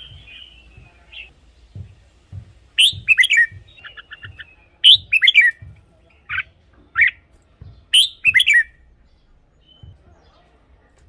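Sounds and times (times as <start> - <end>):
bird singing warbling phrases: 0.0 - 1.3, 2.8 - 10.5.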